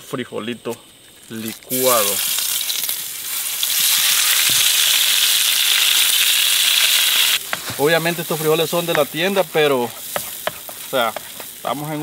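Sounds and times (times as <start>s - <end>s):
food sizzling in hot oil: 1.4s - 12.0s.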